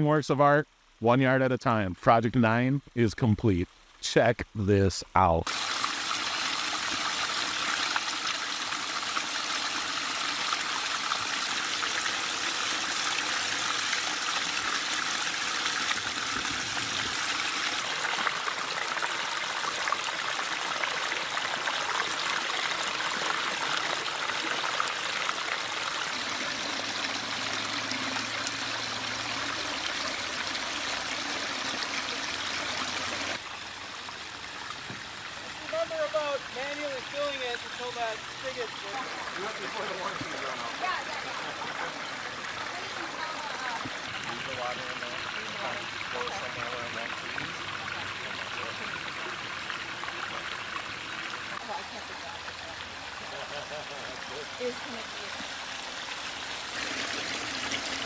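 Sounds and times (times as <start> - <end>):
waterfall splashing over stones: 5.2 - 58.0.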